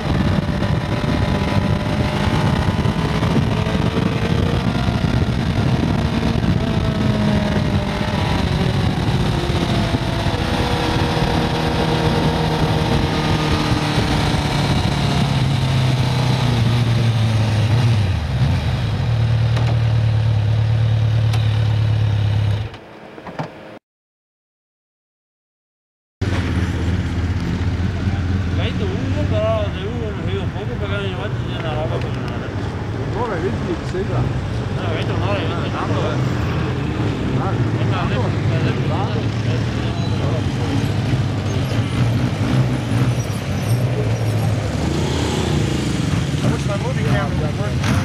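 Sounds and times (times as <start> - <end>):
motorcycle engine: 0.0 - 23.7, 26.2 - 48.0.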